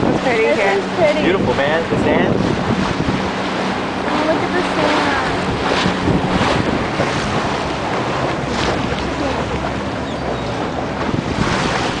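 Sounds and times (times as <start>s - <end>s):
wind blowing across microphone: 0.0s - 9.1s, 9.7s - 12.0s
sea water washing around boat: 0.0s - 12.0s.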